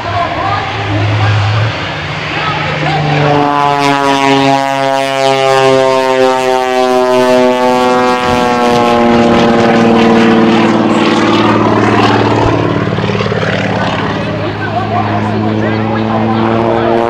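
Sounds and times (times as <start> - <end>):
biplane engine and propeller drone: 0.0 - 17.0.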